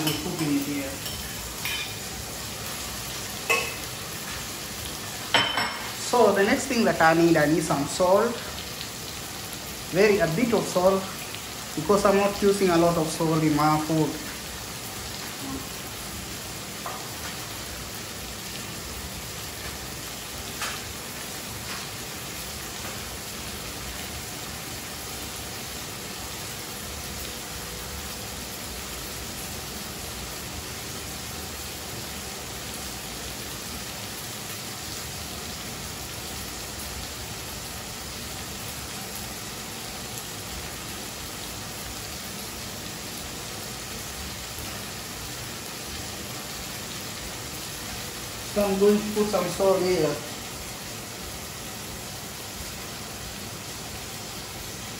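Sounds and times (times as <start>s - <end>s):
onions and tomatoes sizzling in pan: 0.0s - 54.9s.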